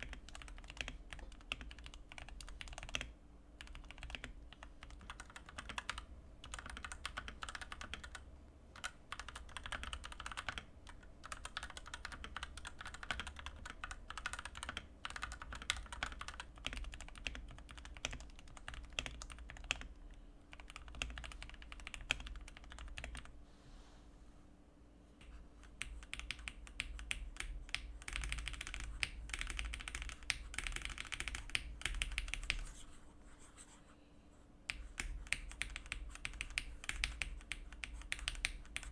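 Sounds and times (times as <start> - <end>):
mechanical keyboard typing: 0.0 - 23.3, 25.6 - 32.8, 34.7 - 38.9.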